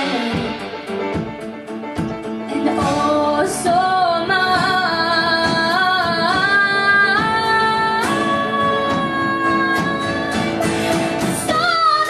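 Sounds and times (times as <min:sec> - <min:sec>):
drums: 0:00.0 - 0:12.0
guitar: 0:00.0 - 0:12.0
piano: 0:00.0 - 0:12.0.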